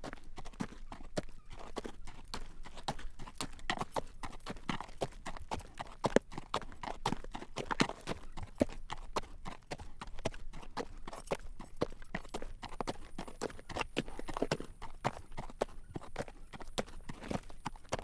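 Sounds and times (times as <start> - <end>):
horse hooves clip-clopping on road: 0.0 - 18.0.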